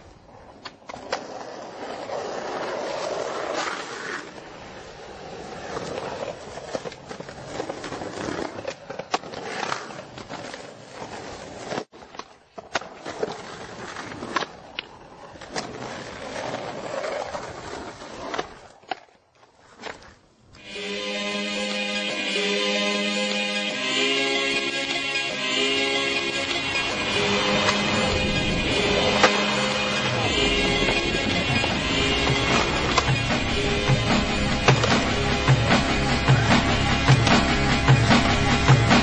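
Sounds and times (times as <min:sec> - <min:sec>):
skateboard wheels rolling: 0:00.0 - 0:20.7, 0:26.2 - 0:39.0.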